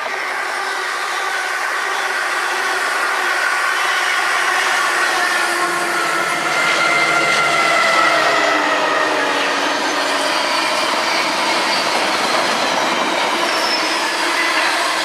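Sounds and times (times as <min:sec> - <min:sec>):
diesel locomotive engine: 0:00.0 - 0:15.0
electric train whine: 0:00.0 - 0:15.0
wheel and rail rush: 0:00.0 - 0:15.0.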